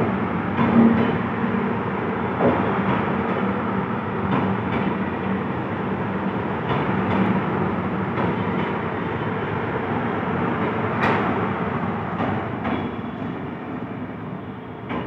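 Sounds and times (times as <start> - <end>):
train rumbling along rails: 0.0 - 15.0.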